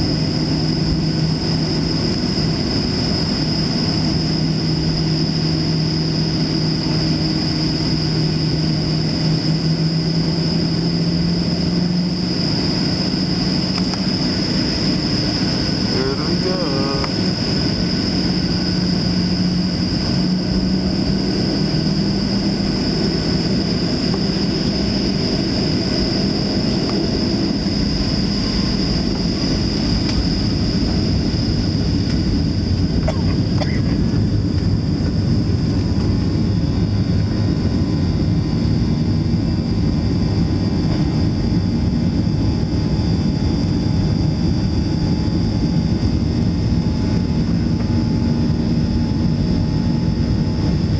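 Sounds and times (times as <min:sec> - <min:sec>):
jet engines heard from cabin: 0:00.0 - 0:50.9.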